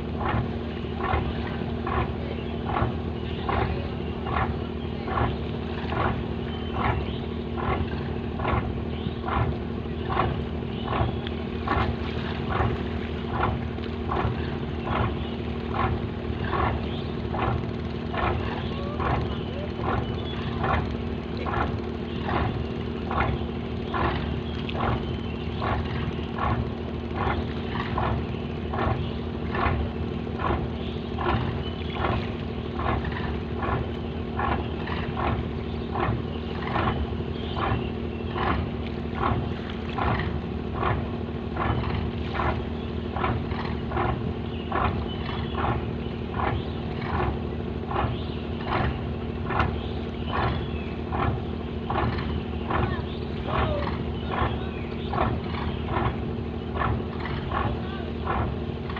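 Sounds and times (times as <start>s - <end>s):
boat engine knocking drone: 0.0s - 58.9s.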